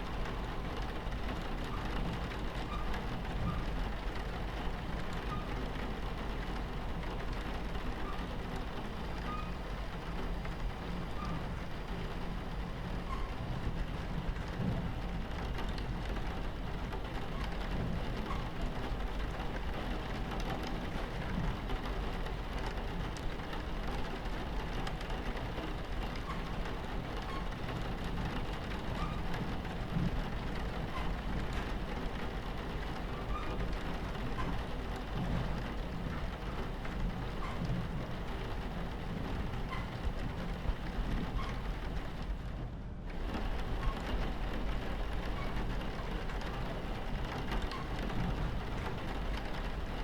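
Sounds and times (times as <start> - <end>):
rain pattering on train window: 0.0 - 50.0
train rumbling on tracks: 0.0 - 50.0.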